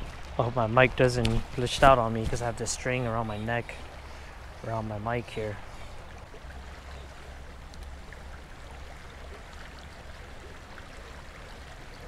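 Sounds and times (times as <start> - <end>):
water flowing over rocks: 0.0 - 12.0.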